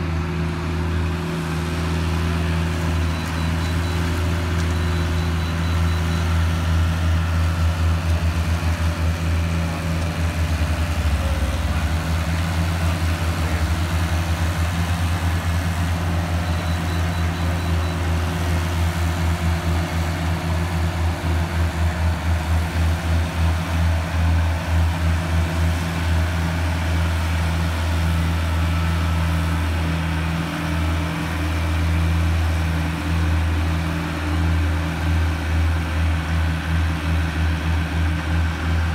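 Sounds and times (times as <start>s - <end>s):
heavy machinery engines droning: 0.0s - 38.9s.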